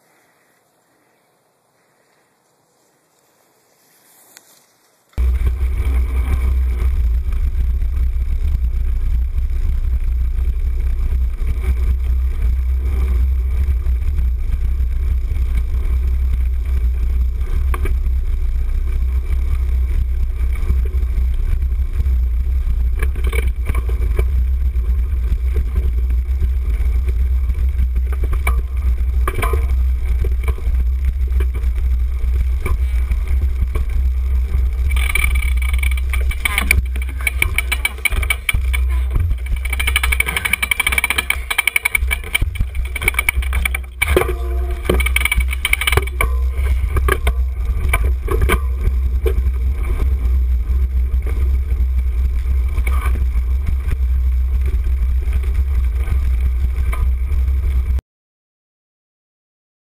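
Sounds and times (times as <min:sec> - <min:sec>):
wind rumble on camera: 0:05.2 - 0:58.0.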